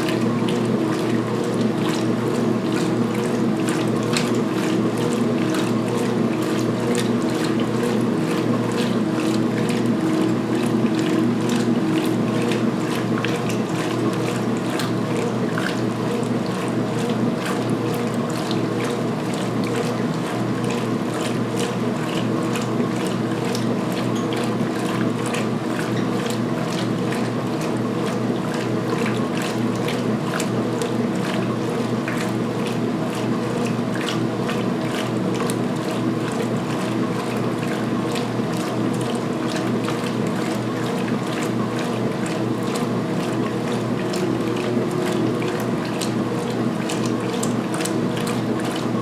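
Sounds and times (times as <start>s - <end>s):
water sloshing: 0.0s - 20.8s, 21.6s - 49.0s
washing machine motor hum: 0.0s - 49.0s.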